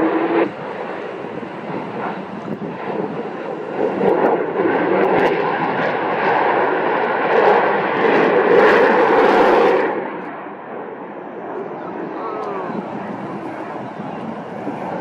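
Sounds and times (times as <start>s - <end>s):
aircraft engine noise with whine: 0.0s - 15.0s.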